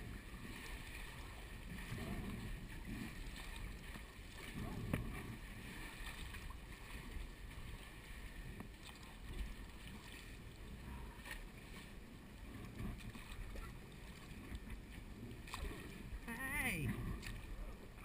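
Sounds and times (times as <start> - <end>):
faint splashes: 0.0 - 18.0
low wind rumble on microphone: 0.0 - 18.0
water lapping around a kayak: 0.0 - 18.0.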